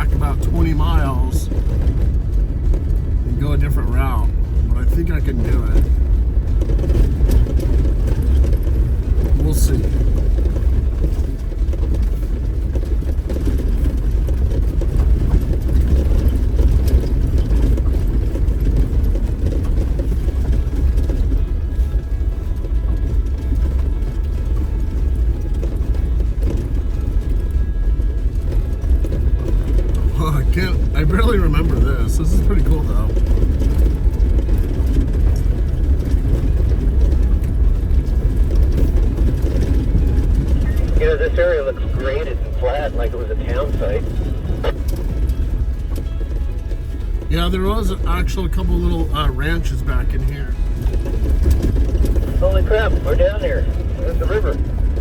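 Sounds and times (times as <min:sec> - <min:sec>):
off-road vehicle engine rumble: 0:00.0 - 0:55.0.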